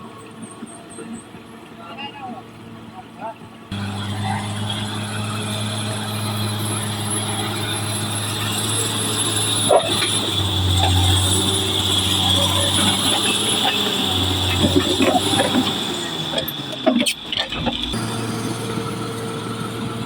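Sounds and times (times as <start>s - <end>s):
bulldozer diesel engine running: 3.5s - 20.0s.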